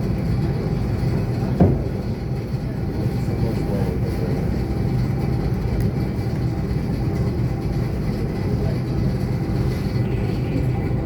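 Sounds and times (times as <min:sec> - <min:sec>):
train rumbling from inside: 0:00.0 - 0:11.0.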